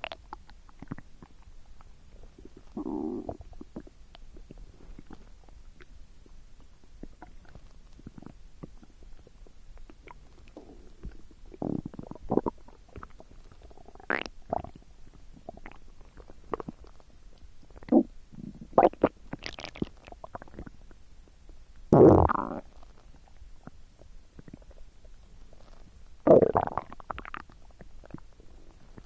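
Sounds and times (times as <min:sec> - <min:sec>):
stomach gurgling: 0:00.0 - 0:29.0.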